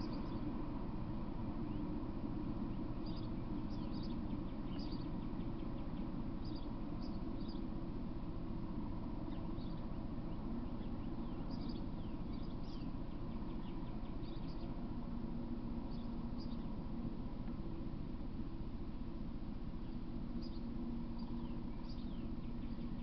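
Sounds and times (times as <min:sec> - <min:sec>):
small birds chirping: 0:00.0 - 0:00.9, 0:01.5 - 0:08.1, 0:08.8 - 0:17.0, 0:19.8 - 0:23.0
low hum and hiss: 0:00.0 - 0:23.0.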